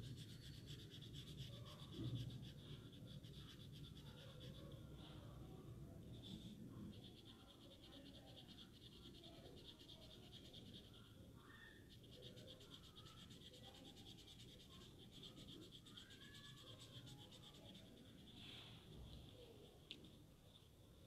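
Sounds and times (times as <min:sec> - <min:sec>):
pen scratching on paper: 0:00.0 - 0:05.2, 0:06.0 - 0:20.2.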